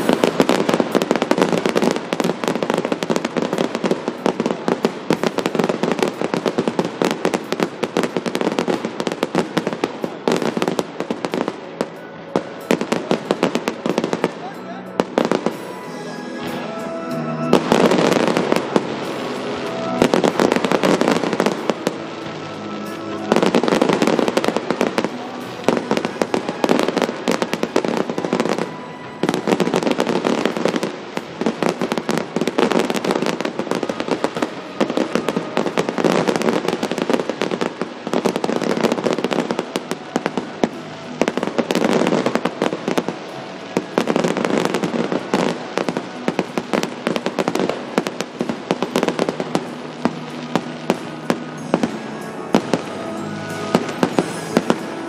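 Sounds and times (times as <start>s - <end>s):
fireworks crackling and banging: 0.0s - 55.0s
music playing: 0.0s - 55.0s.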